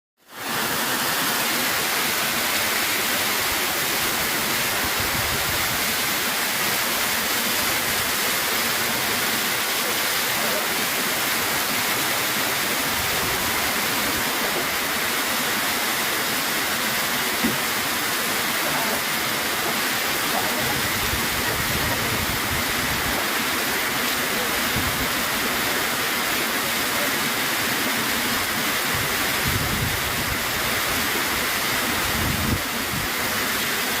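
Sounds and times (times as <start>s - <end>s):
heavy rain falling: 0.3s - 34.0s.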